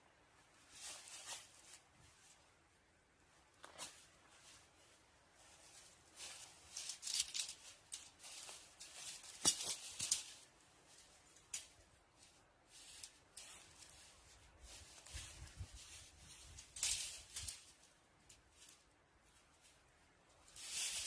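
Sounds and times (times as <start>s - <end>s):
rustling and crackling: 0.2s - 21.0s.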